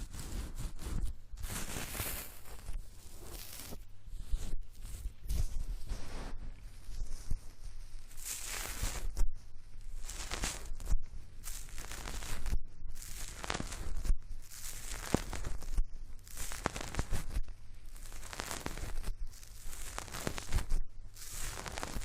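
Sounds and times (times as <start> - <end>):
fingers scrubbing against microphone: 0.0 - 22.0.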